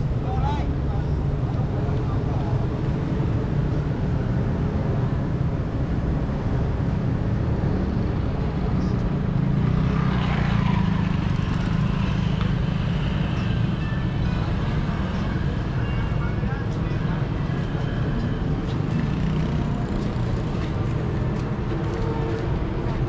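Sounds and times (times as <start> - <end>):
city ambience rumble: 0.0 - 23.0.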